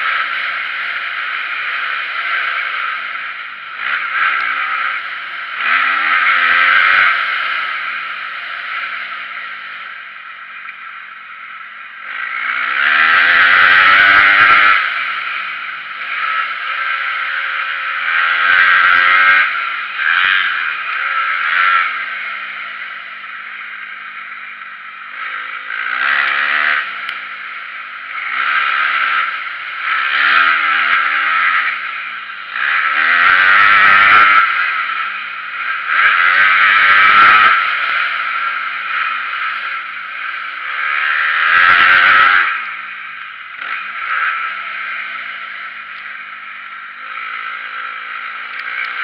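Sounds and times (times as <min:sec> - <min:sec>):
dirt bike engine revving: 0:00.0 - 0:10.7, 0:11.6 - 0:49.0.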